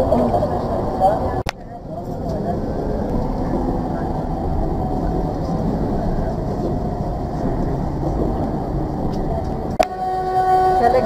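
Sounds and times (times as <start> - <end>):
tram rumbling on rails: 0.0 - 11.0.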